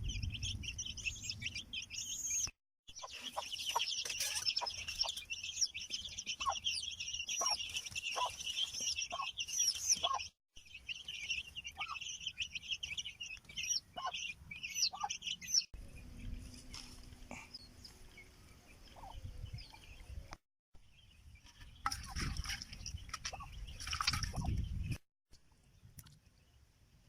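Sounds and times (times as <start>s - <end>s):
chickens chirping and peeping: 0.0s - 20.4s, 21.0s - 25.0s.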